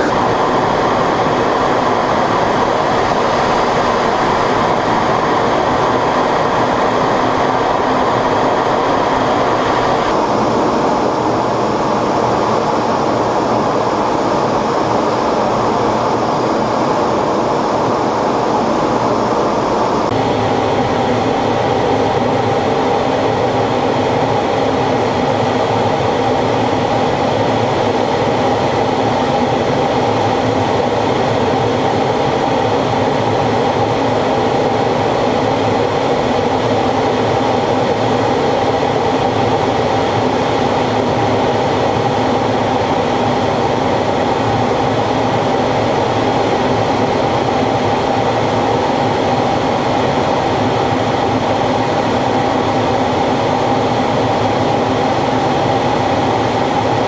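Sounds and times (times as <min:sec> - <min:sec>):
jet cockpit engine noise: 0:00.0 - 0:57.0.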